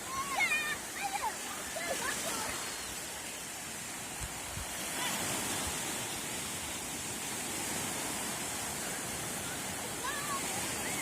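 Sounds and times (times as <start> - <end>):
sea surf hissing: 0.0 - 11.0.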